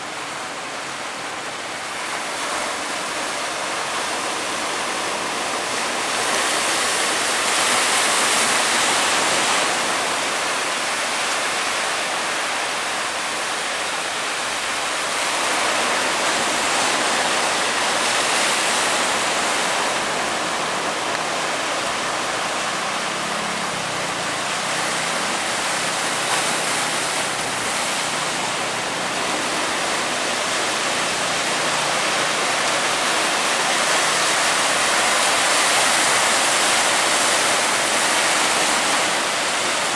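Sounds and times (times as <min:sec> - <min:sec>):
big waves breaking: 0:00.0 - 0:39.9.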